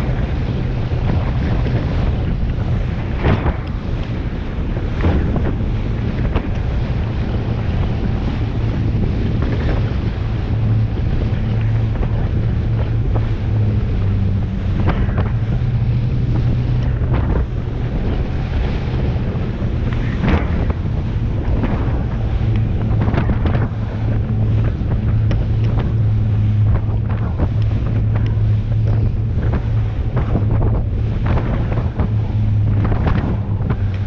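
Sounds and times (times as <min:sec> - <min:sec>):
boat engines humming: 0:00.0 - 0:34.0
waves splashing against hull: 0:00.0 - 0:34.0
wind buffeting microphone: 0:00.0 - 0:34.0.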